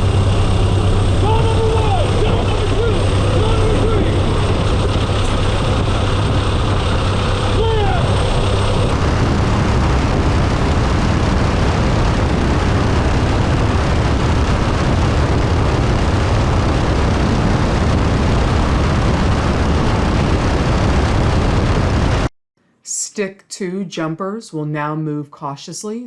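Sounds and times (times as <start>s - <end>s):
loud rush of wind: 0.0s - 22.3s
turboprop engines running: 0.0s - 22.3s.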